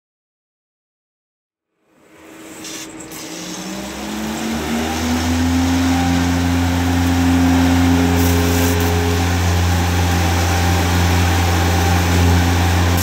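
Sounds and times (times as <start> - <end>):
lathe hum and spindle whine: 1.9 - 13.0
coolant spray hissing: 2.3 - 13.0.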